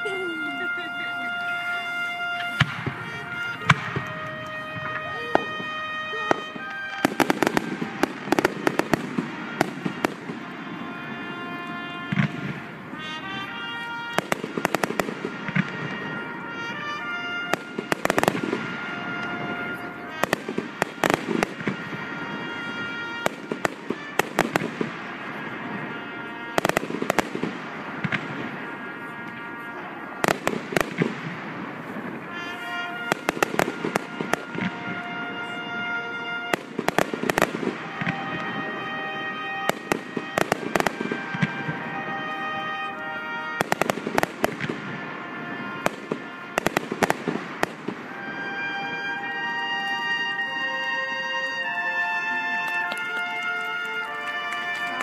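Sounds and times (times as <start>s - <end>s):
music playing: 0.0s - 27.3s, 32.0s - 55.0s
fireworks bangs and crackle: 0.0s - 55.0s.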